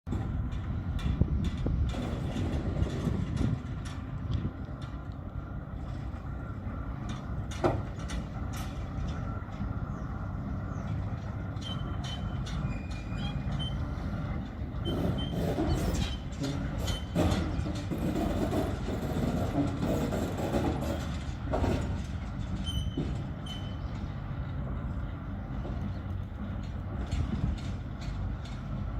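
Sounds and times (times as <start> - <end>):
metal clanks and knocks: 0.1 - 5.0, 7.0 - 9.7, 10.8 - 13.8, 14.4 - 24.1, 25.6 - 28.9
railway turntable rumble: 0.1 - 28.9.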